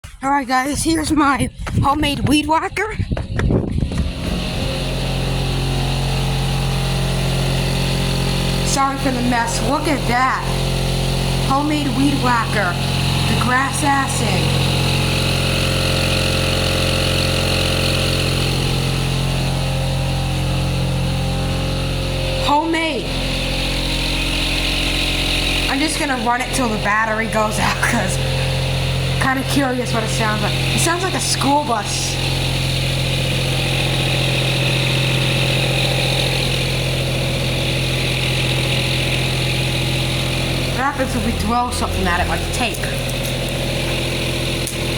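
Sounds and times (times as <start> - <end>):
weed trimmer humming: 3.7 - 44.9.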